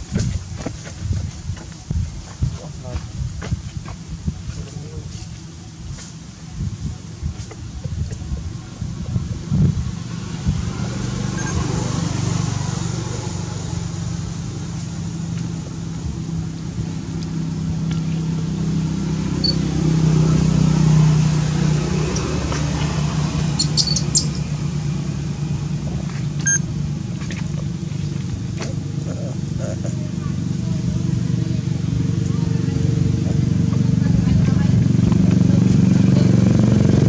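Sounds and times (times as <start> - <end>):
vehicle engine humming: 0.0 - 37.0.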